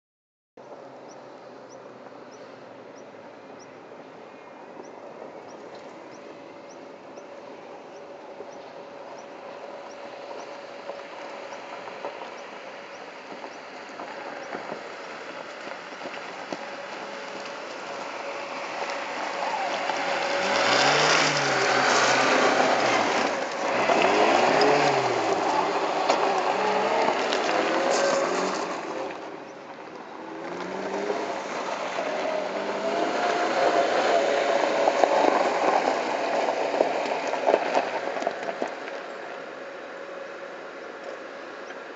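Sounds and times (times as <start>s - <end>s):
car engine droning: 0.9s - 41.9s
tyres crackling on gravel: 5.0s - 41.9s.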